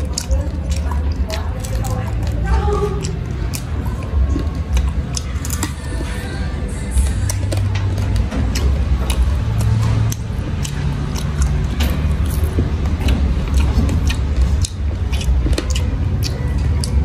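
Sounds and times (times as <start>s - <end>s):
crunchy chewing: 0.0s - 17.0s
steady low rumble: 0.0s - 17.0s.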